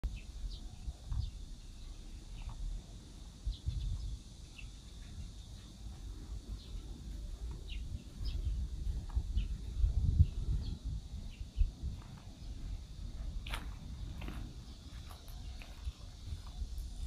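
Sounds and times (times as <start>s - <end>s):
low uneven rumble: 0.1s - 17.0s.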